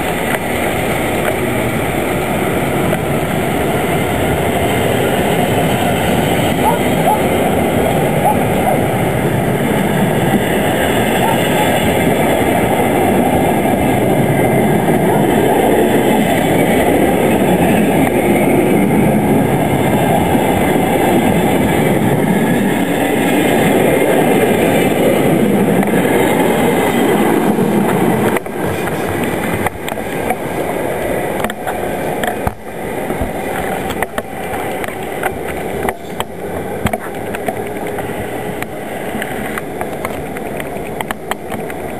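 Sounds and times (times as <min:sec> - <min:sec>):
train rumbling past: 0:00.0 - 0:41.9
wheels clicking over rail joints: 0:00.0 - 0:41.9.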